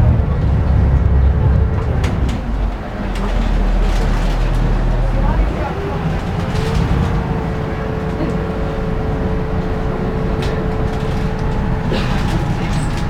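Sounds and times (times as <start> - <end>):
boat engine rumbling: 0.0 - 13.0
steady hum: 0.0 - 13.0.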